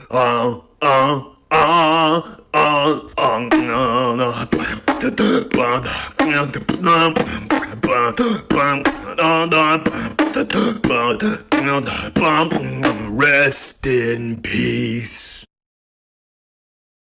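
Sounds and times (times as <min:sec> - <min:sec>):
man beatboxing: 0:00.0 - 0:15.5.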